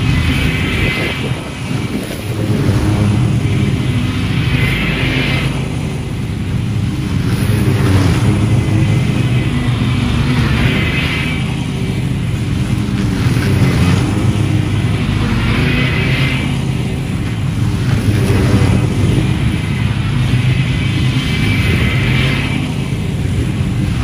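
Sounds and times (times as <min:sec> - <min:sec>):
blades cutting grass hiss: 0:00.0 - 0:24.0
riding mowers running: 0:00.0 - 0:24.0.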